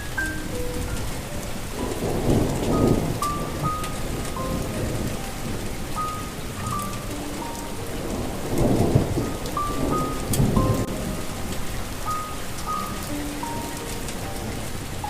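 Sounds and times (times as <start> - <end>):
slow melody of held notes: 0.0 - 15.0
steady rain: 0.0 - 15.0
thunder rumbling: 0.0 - 15.0.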